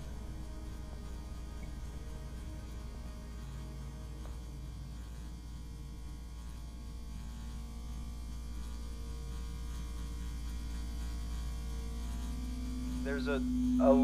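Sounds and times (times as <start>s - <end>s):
low electrical droning hum: 0.0s - 14.0s.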